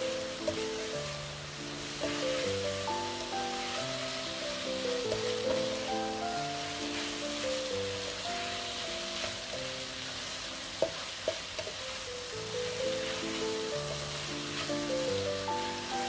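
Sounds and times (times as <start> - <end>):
soft background music: 0.0 - 16.0
vegetables sizzling in oil: 0.0 - 16.0
spatula tapping pan: 0.3 - 1.1, 1.8 - 9.8, 10.4 - 12.0, 12.6 - 16.0.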